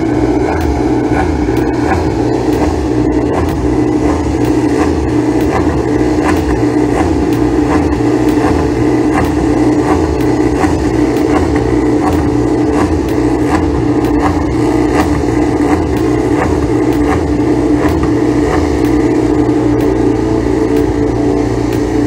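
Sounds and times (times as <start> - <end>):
loud engine drone: 0.0 - 22.0.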